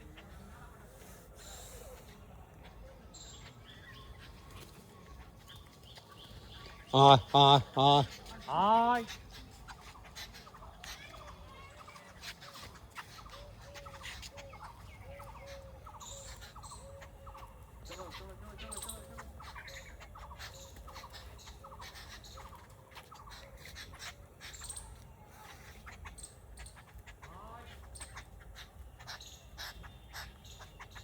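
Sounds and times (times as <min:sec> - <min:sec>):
birds calling repeatedly: 0:00.0 - 0:31.0.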